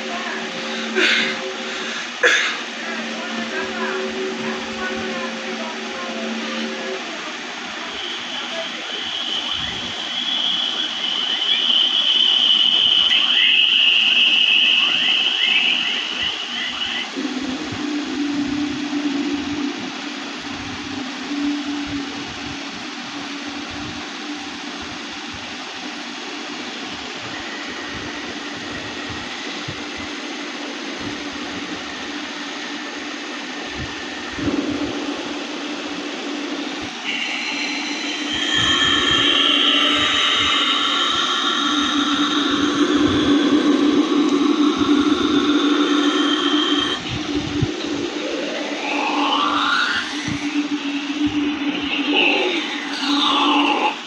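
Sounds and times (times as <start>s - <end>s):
high held tone: 0.0s - 24.2s, 26.3s - 54.0s
eerie rushing noise: 0.0s - 54.0s
low steady hum: 0.0s - 54.0s
steady hiss: 0.0s - 54.0s.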